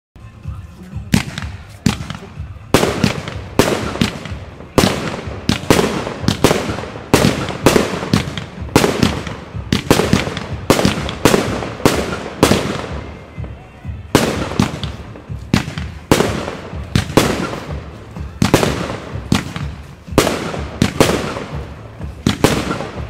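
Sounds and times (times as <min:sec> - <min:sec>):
fireworks bangs: 0:01.0 - 0:23.0.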